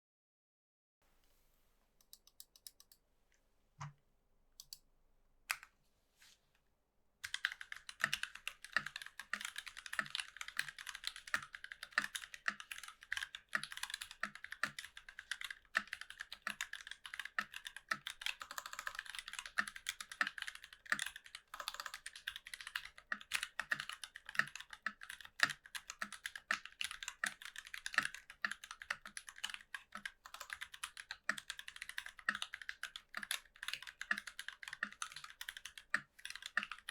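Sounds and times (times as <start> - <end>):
typing on mechanical keyboard: 7.2 - 36.9.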